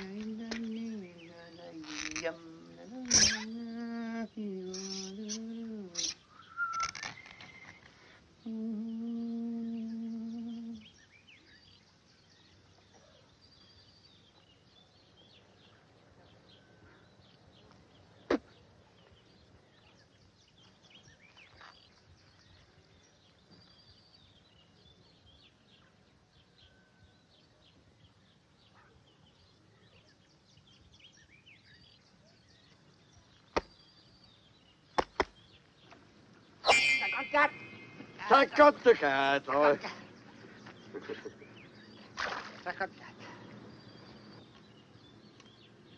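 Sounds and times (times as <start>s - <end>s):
bird chirps: 0.0s - 45.9s.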